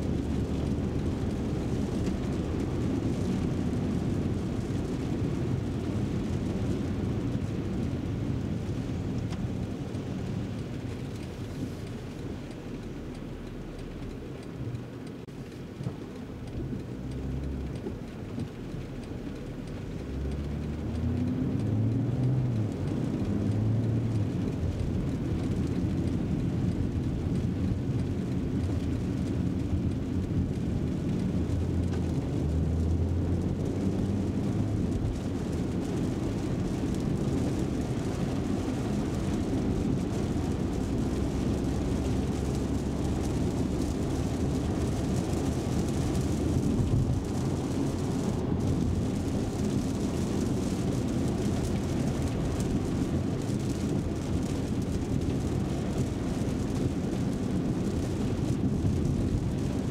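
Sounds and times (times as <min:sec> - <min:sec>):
car engine accelerating: 0:00.0 - 0:59.8
rain noise: 0:00.0 - 0:59.9.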